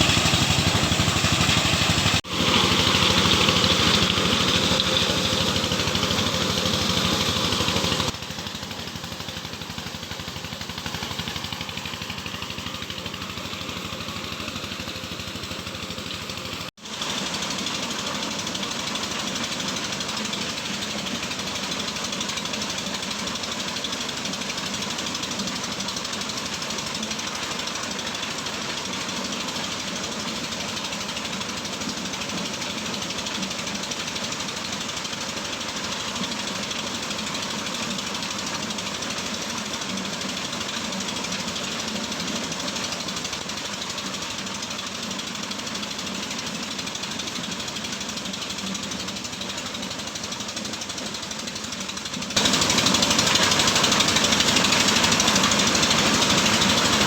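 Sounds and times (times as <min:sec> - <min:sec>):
corn sheller machine running: 0:00.0 - 0:57.0.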